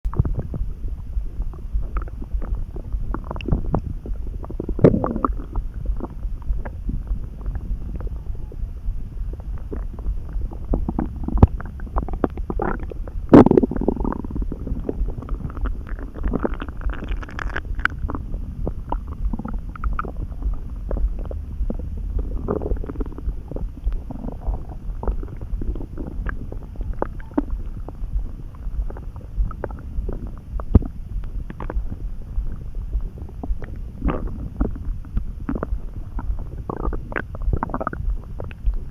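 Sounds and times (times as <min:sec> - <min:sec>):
stomach gurgling and rumbling: 0:00.0 - 0:38.9.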